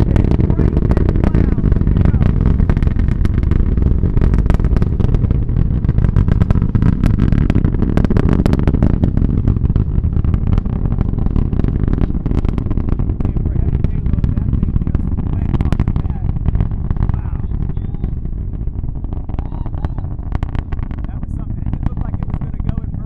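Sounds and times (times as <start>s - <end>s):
rocket engines rumbling and crackling: 0.0s - 23.0s.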